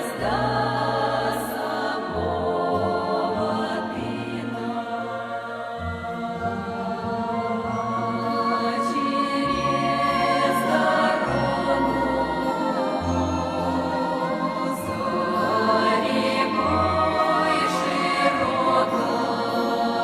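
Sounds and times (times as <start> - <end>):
choral singing with bass: 0.0 - 20.0.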